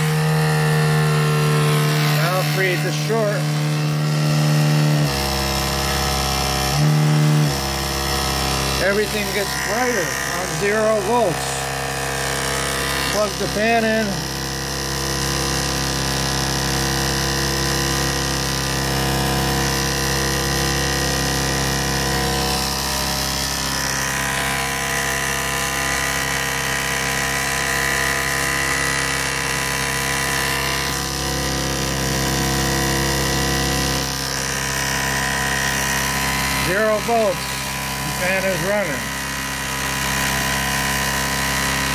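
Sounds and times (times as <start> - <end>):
electric motor hum and whine: 0.0 - 41.9.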